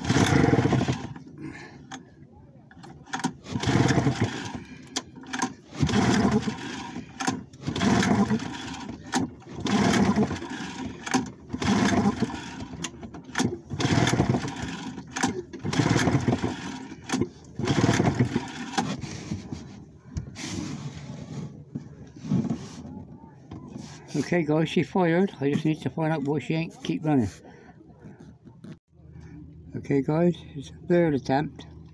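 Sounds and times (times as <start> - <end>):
outboard motor cranking: 0.0 - 30.0.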